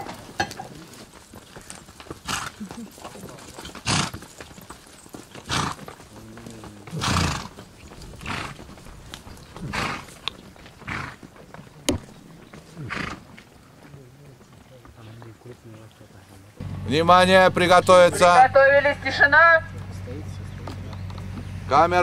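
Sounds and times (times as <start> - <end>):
horses snorting: 0.0 - 22.0.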